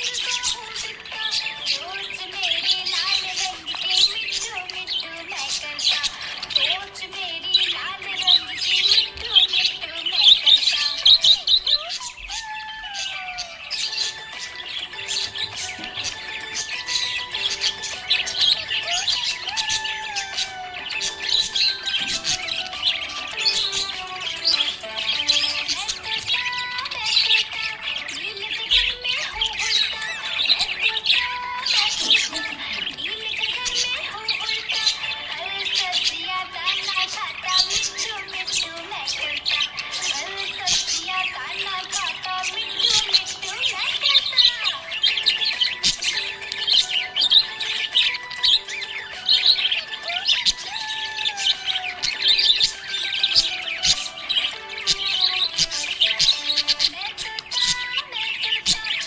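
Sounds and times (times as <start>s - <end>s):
budgerigars chirping and warbling: 0.0s - 59.0s.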